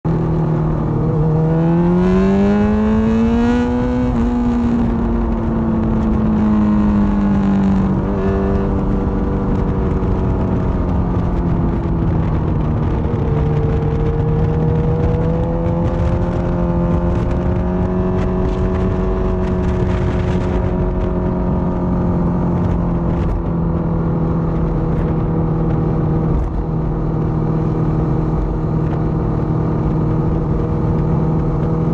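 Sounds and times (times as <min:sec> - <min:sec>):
wind and road noise: 0:00.0 - 0:31.9
motorcycle engine accelerating: 0:00.1 - 0:31.9.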